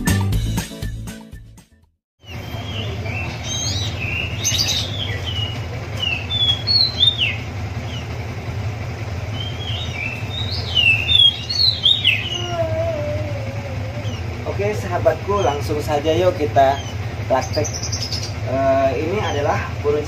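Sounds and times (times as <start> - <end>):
bird chirping: 2.2 - 8.2, 9.2 - 19.8
steady low hum: 2.3 - 20.0.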